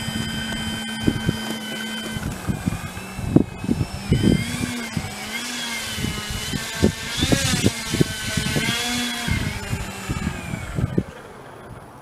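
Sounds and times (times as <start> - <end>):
model plane motor whining: 0.0 - 11.7
wind buffeting microphone: 0.0 - 12.0.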